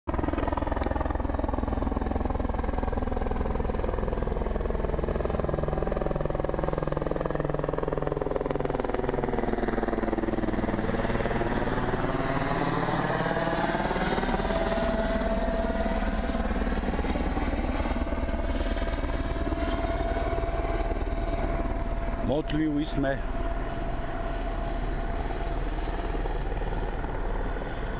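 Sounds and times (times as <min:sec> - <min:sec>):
helicopter flying overhead: 0:00.1 - 0:27.9.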